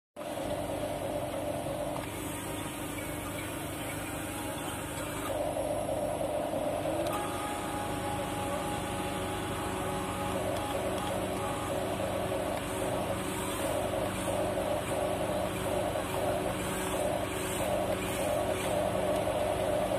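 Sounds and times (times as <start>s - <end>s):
electric motors whirring: 0.3s - 19.9s.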